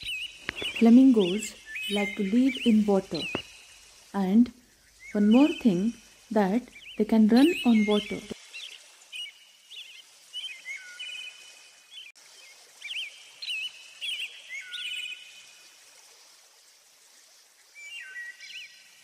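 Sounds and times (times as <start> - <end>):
songbirds singing: 0.0 - 12.1, 12.8 - 15.4, 17.8 - 19.0
steady hiss: 0.0 - 19.0.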